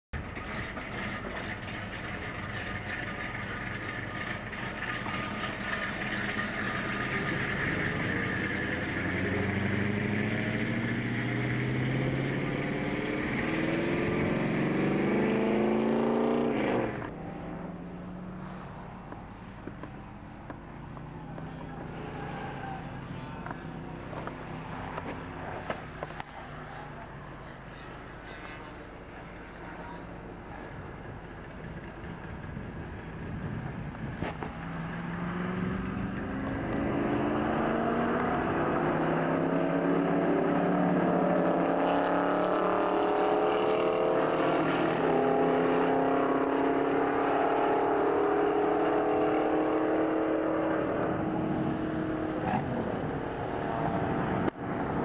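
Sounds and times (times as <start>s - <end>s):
car engine revving: 0.2s - 26.8s, 31.4s - 55.0s.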